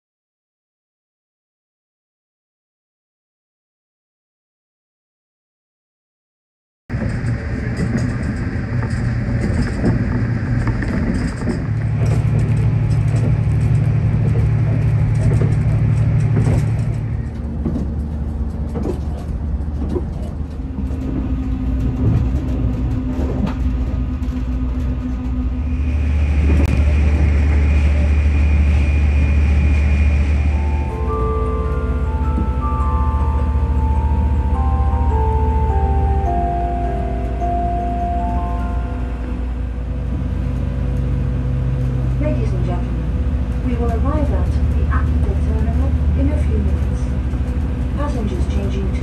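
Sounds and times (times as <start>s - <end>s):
train running gear rumble: 6.9s - 49.0s
train wheels clicking: 7.0s - 49.0s.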